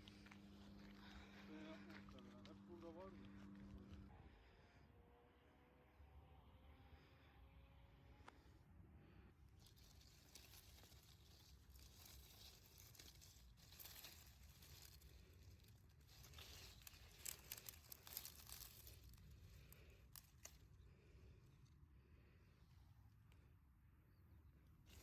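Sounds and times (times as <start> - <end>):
faint rustling and crinkling: 0.0 - 4.4, 9.3 - 25.0.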